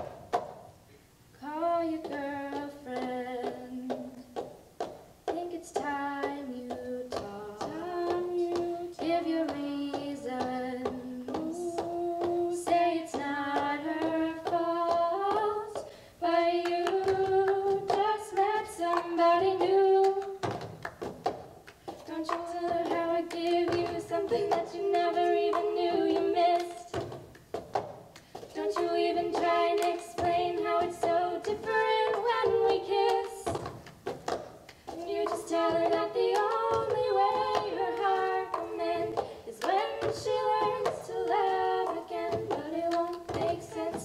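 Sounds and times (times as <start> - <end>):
hands clapping: 0.0 - 0.7, 2.0 - 15.9, 16.6 - 44.0
two female voices singing: 1.4 - 4.5, 5.2 - 20.6, 22.0 - 27.2, 28.4 - 33.7, 34.8 - 44.0.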